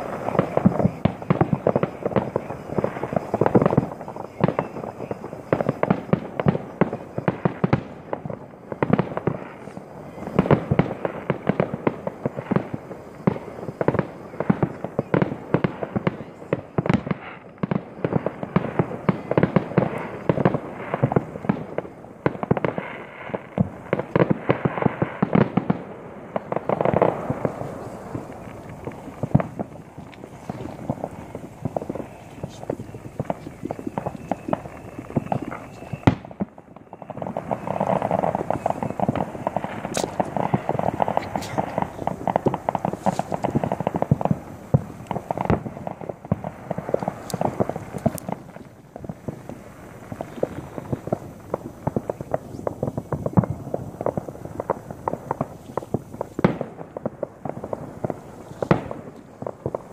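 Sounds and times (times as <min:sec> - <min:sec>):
fireworks bangs and crackling pops: 0:00.0 - 0:59.9.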